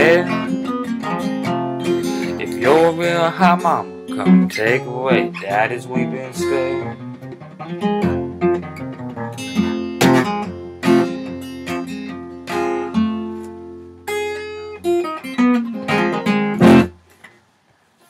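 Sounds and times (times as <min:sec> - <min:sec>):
guitar chord strummed: 0:00.0 - 0:17.0
acoustic guitar picking: 0:00.0 - 0:17.3.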